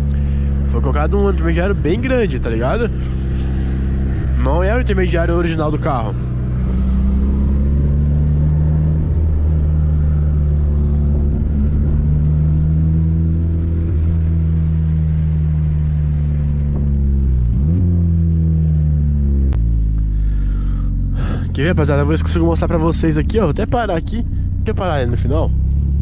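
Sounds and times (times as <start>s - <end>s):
car engine and exhaust drone: 0.0s - 26.0s.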